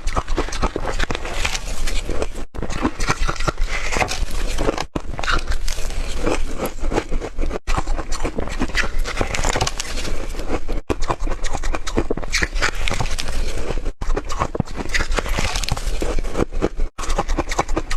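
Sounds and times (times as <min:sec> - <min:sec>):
ice being chewed: 0:00.0 - 0:17.9.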